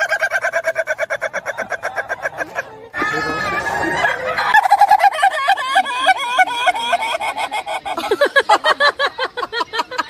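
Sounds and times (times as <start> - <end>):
poultry calling: 0.0 - 8.2.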